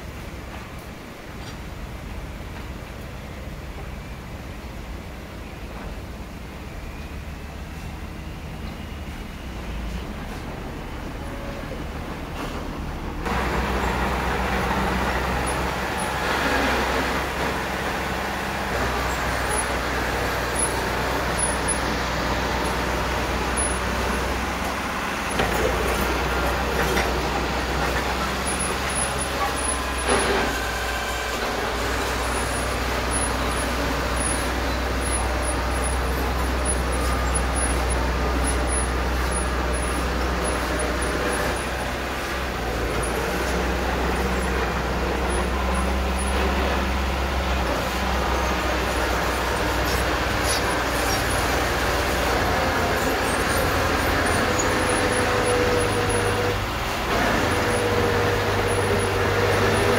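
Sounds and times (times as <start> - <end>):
bulldozer diesel engine: 0.0 - 59.9.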